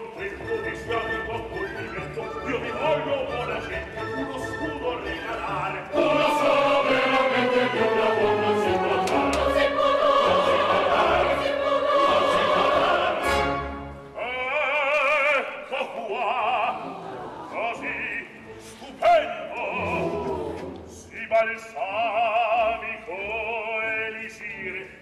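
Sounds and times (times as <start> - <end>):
opera chorus with orchestra: 0.0 - 25.0.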